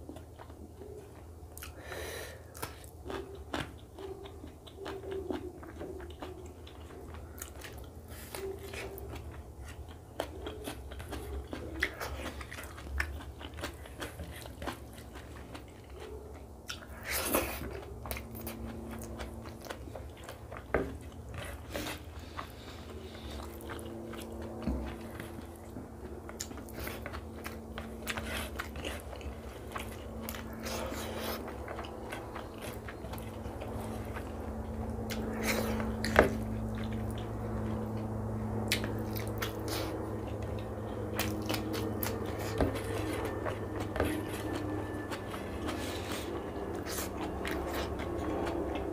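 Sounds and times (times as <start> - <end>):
chewing and mouth clicks: 0.0 - 1.8, 2.4 - 48.9
steady low hum: 0.0 - 48.9.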